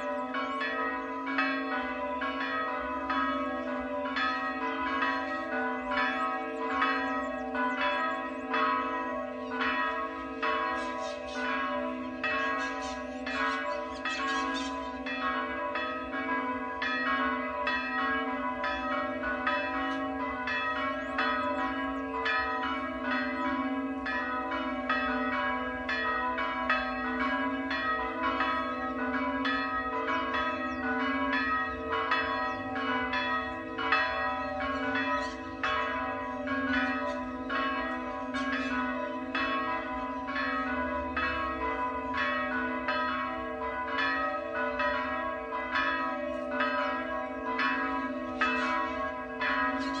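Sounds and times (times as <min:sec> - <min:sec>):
church bells ringing: 0:00.0 - 0:50.0.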